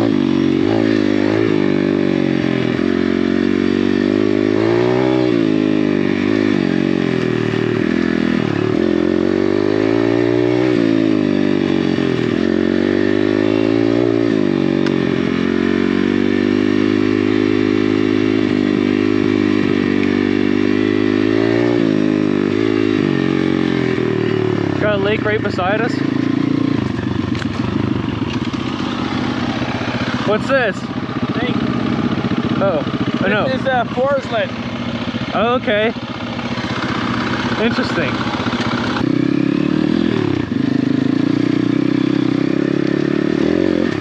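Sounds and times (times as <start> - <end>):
motorbike engine revving: 0.0 - 44.0.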